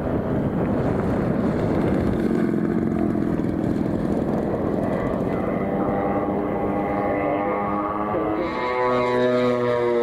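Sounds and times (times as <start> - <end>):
model propeller engine running: 0.1 - 10.0.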